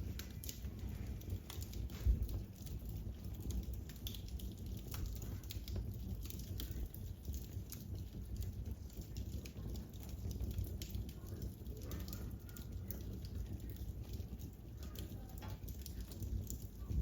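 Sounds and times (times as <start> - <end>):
fire crackling in a fireplace: 0.0 - 17.0.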